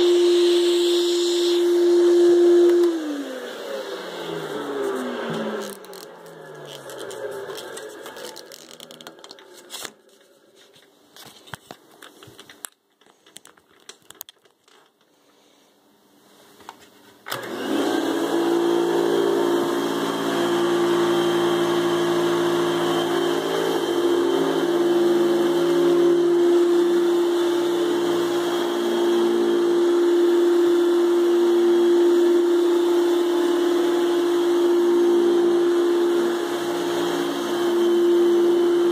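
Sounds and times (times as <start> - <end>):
vacuum motor winding down: 0.0 - 9.7, 17.3 - 38.9
vacuum motor humming: 0.0 - 10.1, 17.3 - 38.9.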